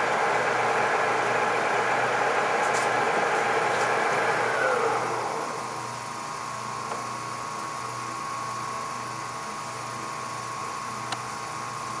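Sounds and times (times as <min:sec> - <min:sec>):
lathe humming and whining: 0:00.0 - 0:12.0.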